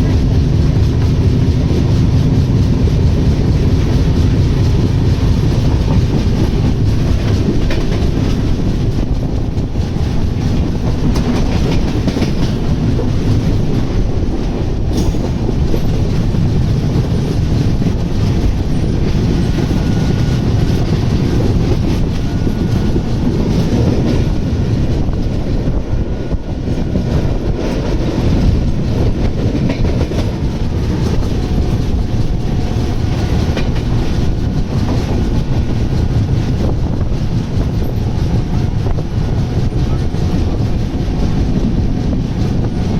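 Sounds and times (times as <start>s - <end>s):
train rail rumble: 0.0s - 42.9s.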